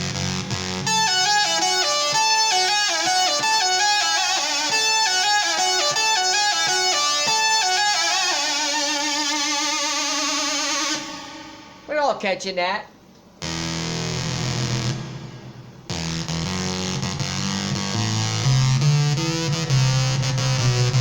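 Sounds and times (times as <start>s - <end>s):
synthesizer lead notes: 0.0s - 11.9s, 13.4s - 21.0s.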